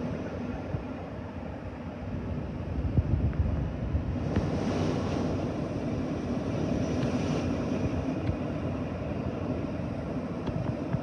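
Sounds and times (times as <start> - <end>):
faint high engine whine: 0.0 - 11.0
jet engines rumbling: 0.0 - 11.0.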